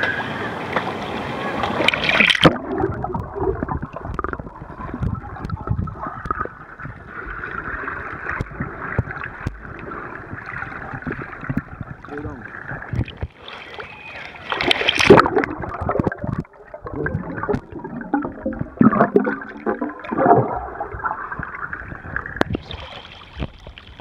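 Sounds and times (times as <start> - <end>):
pool water sloshing and gurgling: 0.0 - 24.0
water bubbling and splashing: 0.8 - 24.0.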